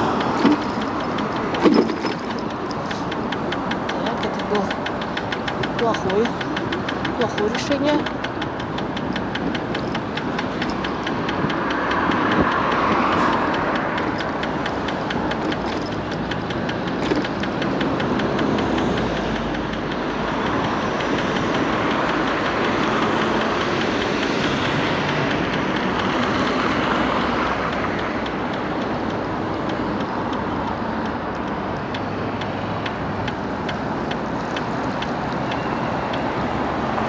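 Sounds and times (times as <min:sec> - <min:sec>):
fast clicking from scooter wheel: 0:00.0 - 0:37.0
wind and road noise: 0:00.0 - 0:37.0.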